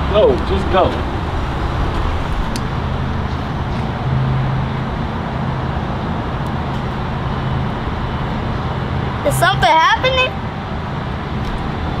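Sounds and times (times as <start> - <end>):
low vehicle hum: 0.0 - 12.0
traffic noise: 0.0 - 12.0.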